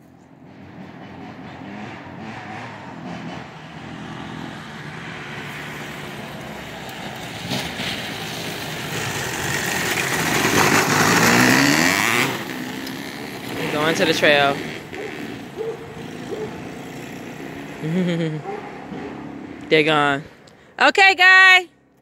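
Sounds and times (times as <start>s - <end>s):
dirt bikes passing by: 0.0s - 21.7s.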